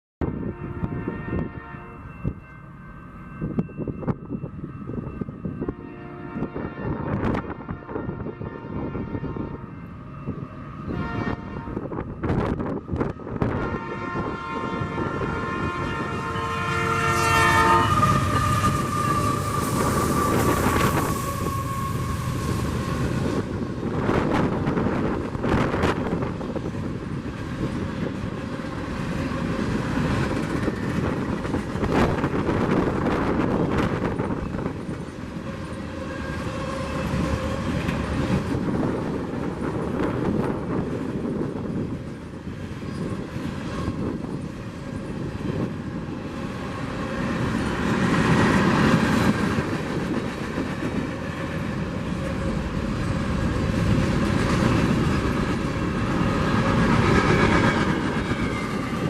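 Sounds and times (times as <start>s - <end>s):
freight train rolling past: 0.2s - 59.0s.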